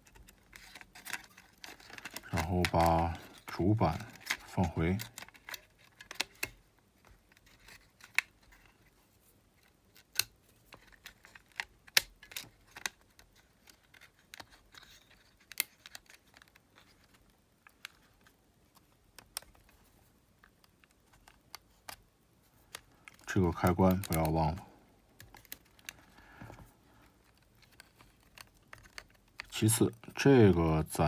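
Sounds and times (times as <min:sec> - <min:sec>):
plastic and metal parts clicking: 0:00.0 - 0:08.9, 0:09.6 - 0:19.8, 0:22.6 - 0:30.2.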